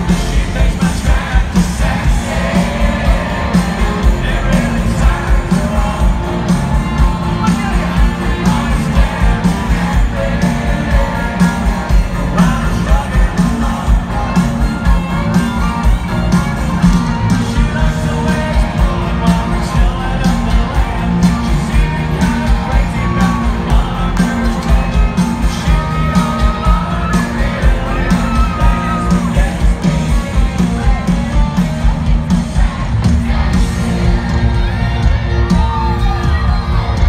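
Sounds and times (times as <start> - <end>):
person singing: 0.0 - 15.9, 17.1 - 34.3
crowd yelling and whooping: 0.0 - 37.0
live country band playing: 0.0 - 37.0.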